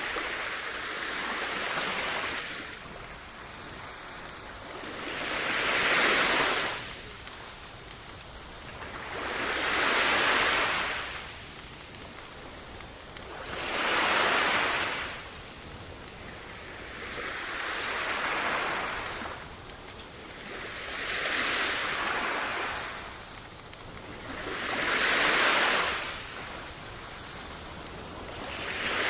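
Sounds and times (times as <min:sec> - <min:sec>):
sea waves washing onto beach: 0:00.0 - 0:29.0.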